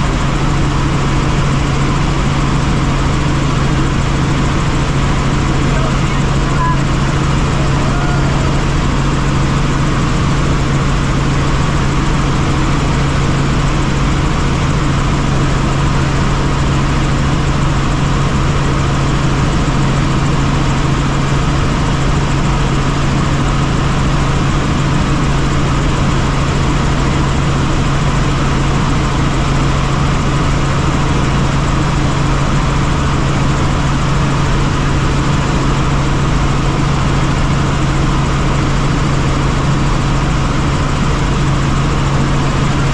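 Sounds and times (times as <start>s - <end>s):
helicopter rotor and turbine drone: 0.0s - 42.9s.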